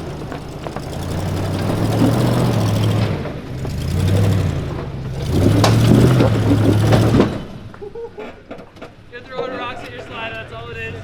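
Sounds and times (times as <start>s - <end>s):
engine working under load: 0.0s - 11.0s.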